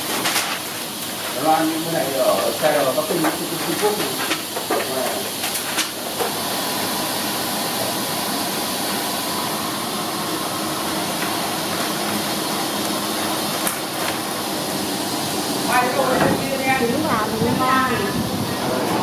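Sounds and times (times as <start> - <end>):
machine noise: 0.0 - 19.0
steam hissing: 0.0 - 19.0.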